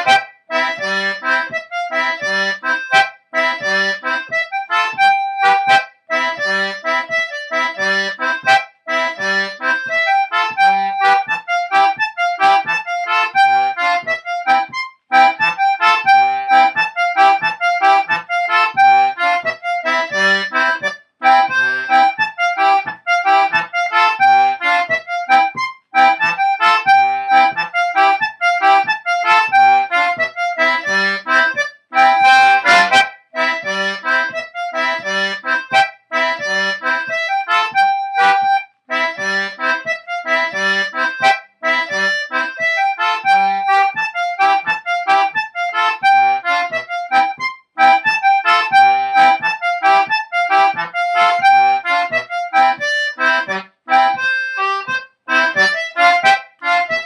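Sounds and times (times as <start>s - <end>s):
concertina playing dance tune: 0.0s - 57.0s.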